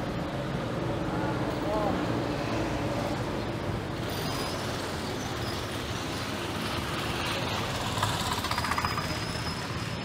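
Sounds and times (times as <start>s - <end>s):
passing vehicle engines: 0.0s - 10.0s
road noise: 0.0s - 10.0s.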